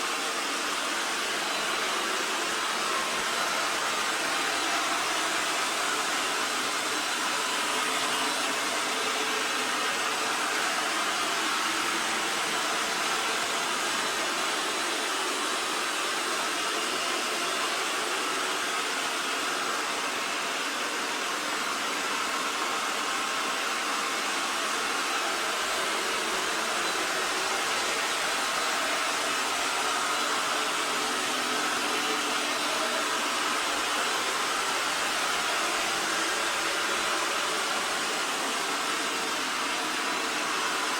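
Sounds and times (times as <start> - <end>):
robot vacuum whirring: 0.0 - 20.7, 21.8 - 40.9.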